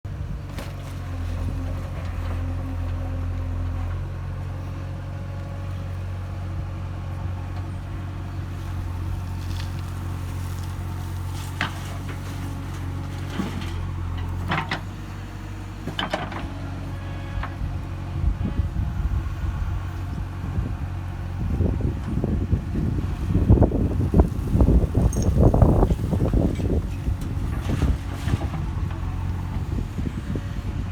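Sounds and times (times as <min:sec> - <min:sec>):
diesel engine running: 0:00.1 - 0:30.9.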